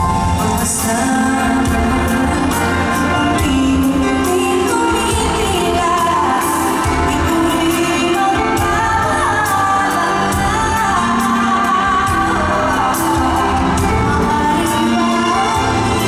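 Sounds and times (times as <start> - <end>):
band accompaniment: 0.0 - 16.0
woman singing pop ballad: 0.0 - 16.0.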